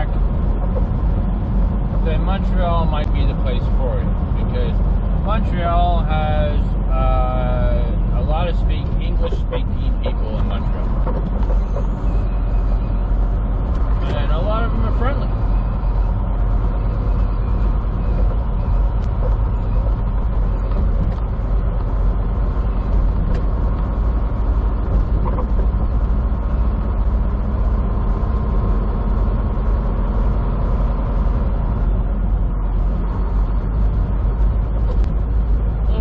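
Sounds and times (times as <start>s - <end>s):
road noise: 0.0s - 36.0s
truck engine drone: 0.0s - 36.0s.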